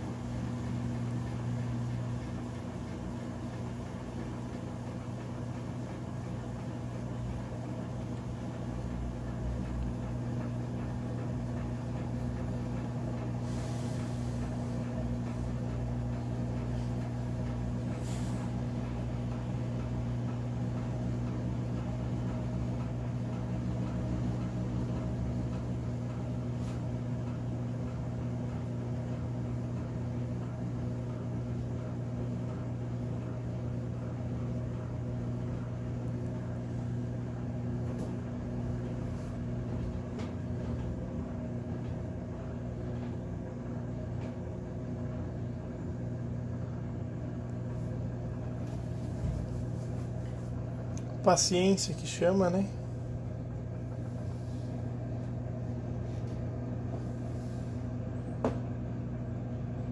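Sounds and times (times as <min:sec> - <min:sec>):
washing machine spin cycle: 0:00.0 - 0:59.9.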